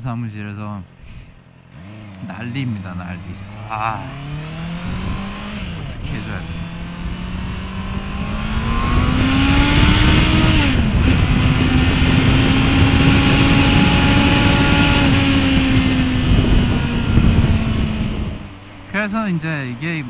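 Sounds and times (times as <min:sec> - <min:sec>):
motorcycle engine accelerating: 0:01.5 - 0:20.0
heavy wind rush: 0:03.2 - 0:19.6.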